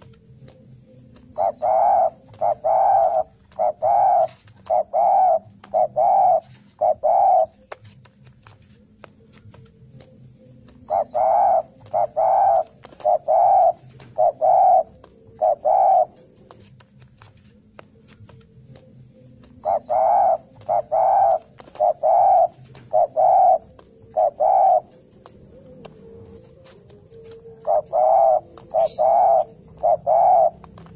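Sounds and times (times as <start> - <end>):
dove cooing: 0.0 - 30.9.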